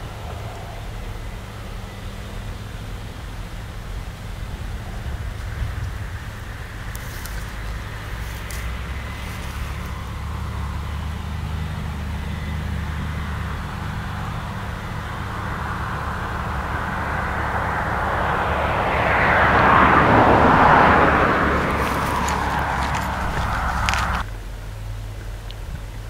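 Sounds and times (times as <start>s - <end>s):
rushing noise: 0.0s - 24.3s
combine harvester engine drone: 0.0s - 26.0s.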